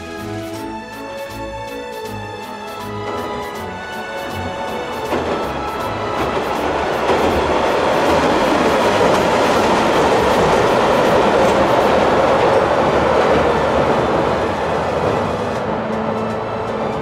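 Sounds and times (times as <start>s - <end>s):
train crossing steel bridge: 0.0s - 17.0s.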